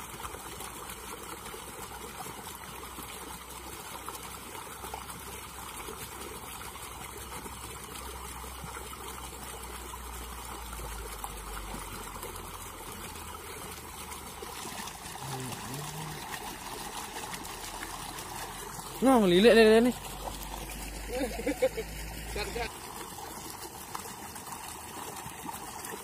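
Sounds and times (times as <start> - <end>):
river water trickling: 0.0 - 26.0.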